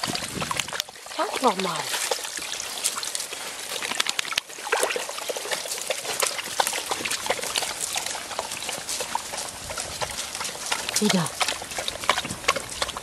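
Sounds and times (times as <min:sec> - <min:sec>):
water splashing in a plastic tub: 0:00.0 - 0:13.0.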